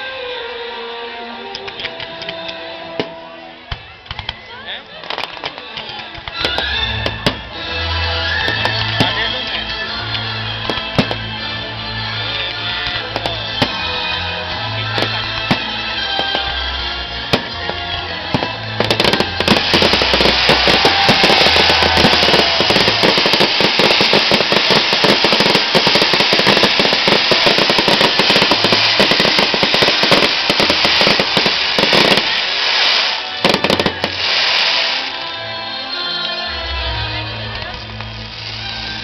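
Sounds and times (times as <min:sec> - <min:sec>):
fireworks crackling: 0:01.5 - 0:35.5, 0:37.2 - 0:39.0.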